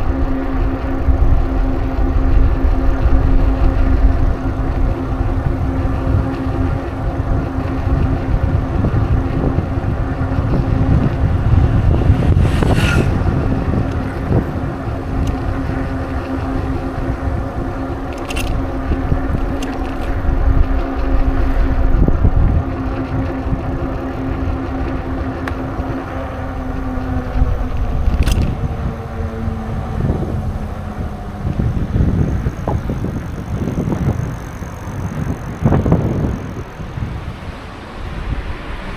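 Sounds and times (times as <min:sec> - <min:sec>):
bicycle tyre noise on road: 0:00.0 - 0:38.9
steady hum: 0:00.0 - 0:38.9
wind rumbling on microphone: 0:00.0 - 0:38.9.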